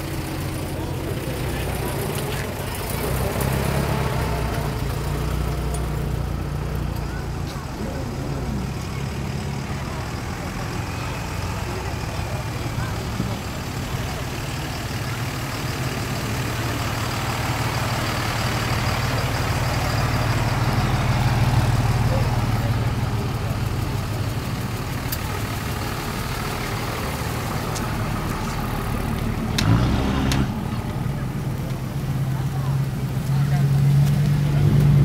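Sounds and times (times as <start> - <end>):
car engine rumbling past: 0.0 - 35.0.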